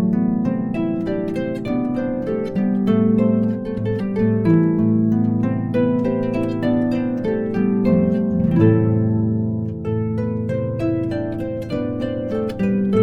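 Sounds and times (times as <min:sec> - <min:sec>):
harp music: 0:00.0 - 0:13.0.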